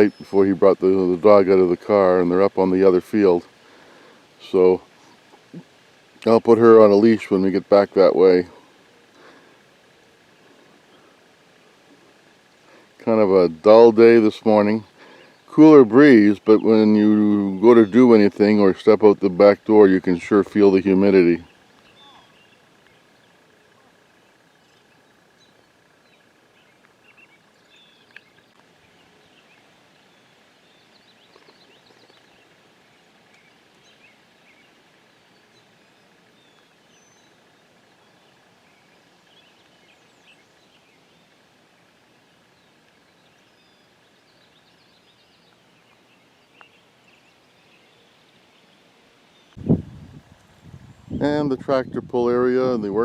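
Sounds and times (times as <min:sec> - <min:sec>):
distant birds chirping: 0:00.0 - 0:53.0.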